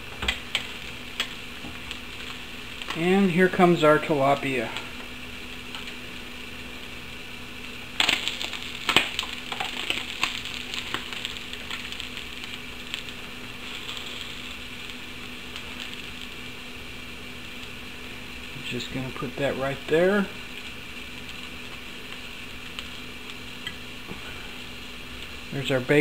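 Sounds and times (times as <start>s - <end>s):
fish sizzling on a grill: 0.0s - 26.0s
steady low hiss: 0.0s - 26.0s.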